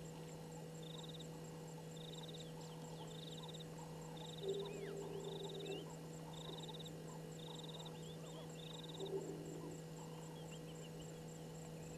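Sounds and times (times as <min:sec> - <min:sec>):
insect pulsed trill: 0:00.0 - 0:11.9
steady low hum: 0:00.0 - 0:11.9.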